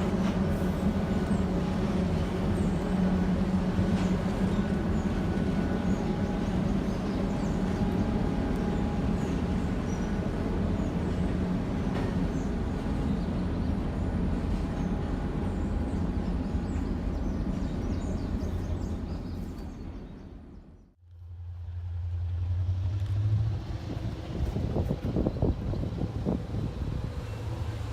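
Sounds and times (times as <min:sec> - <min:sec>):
train rumbling on track: 0:00.0 - 0:27.9.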